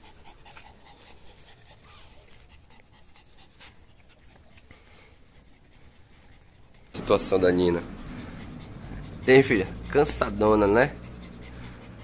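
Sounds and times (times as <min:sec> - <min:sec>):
dog panting faintly: 0:00.0 - 0:12.0.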